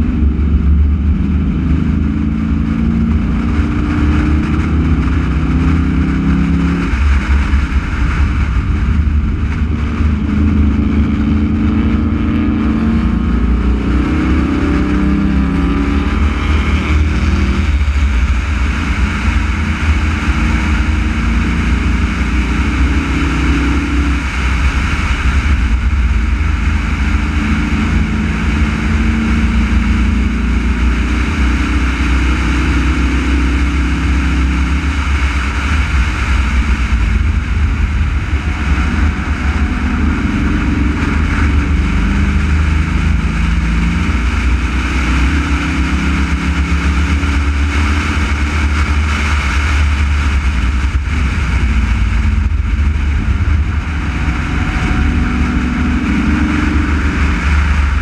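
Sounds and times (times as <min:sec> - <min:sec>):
race car engine revving: 0:00.0 - 0:58.0
road and wind rumble: 0:00.0 - 0:58.0.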